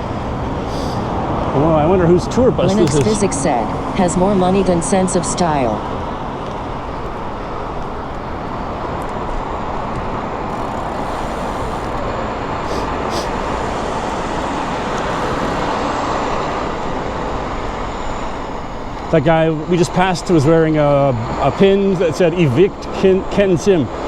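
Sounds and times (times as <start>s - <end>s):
city traffic and road noise: 0.0s - 24.0s.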